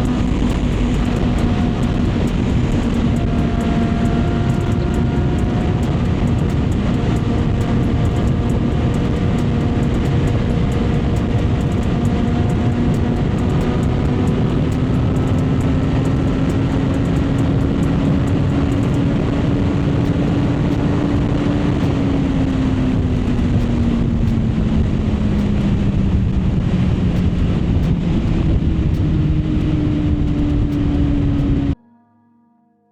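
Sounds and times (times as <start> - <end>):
motorcycle engine cruising: 0.0 - 31.8
wind rush: 0.0 - 31.8.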